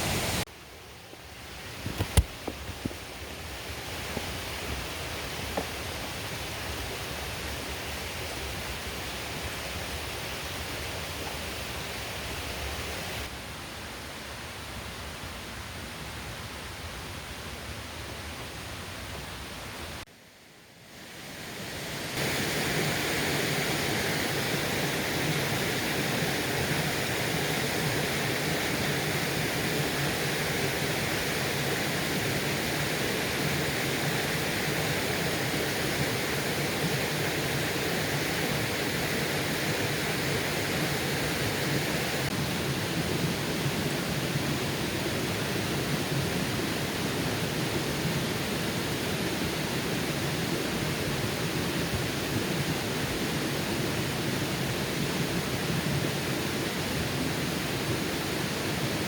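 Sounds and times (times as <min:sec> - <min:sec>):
stream rushing over rocks: 0:01.6 - 0:13.3, 0:21.0 - 0:59.0.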